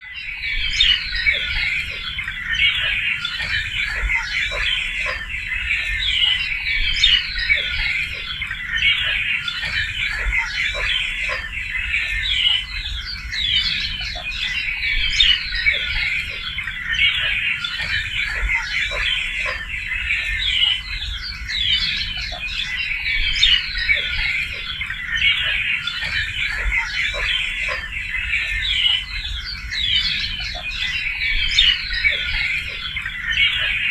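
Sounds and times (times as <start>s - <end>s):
chorus of birds singing: 0.0s - 33.9s.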